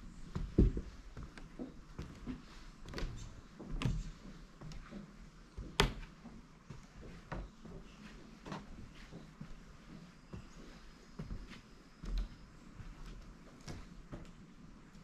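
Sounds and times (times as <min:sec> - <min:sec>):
footsteps on wooden floorboards: 0:00.2 - 0:15.0.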